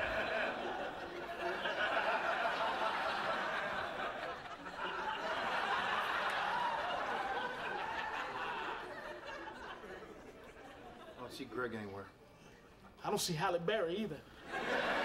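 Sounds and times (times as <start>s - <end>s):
studio audience laughing: 0.0s - 11.4s, 14.3s - 15.0s.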